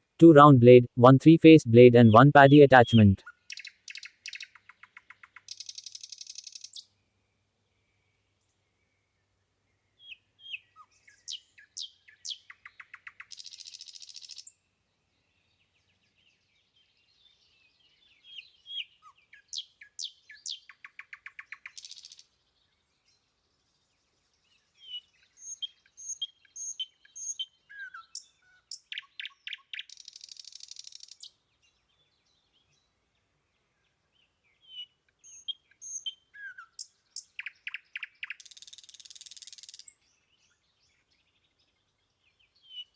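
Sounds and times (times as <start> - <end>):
bird singing: 1.7 - 42.9.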